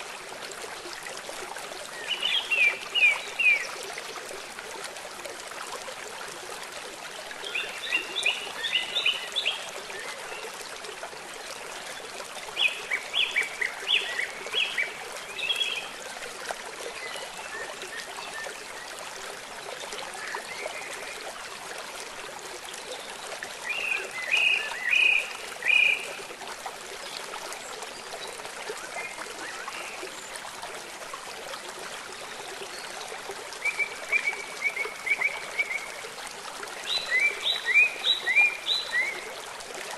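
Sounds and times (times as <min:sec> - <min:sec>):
flowing stream water: 0:00.0 - 0:39.9.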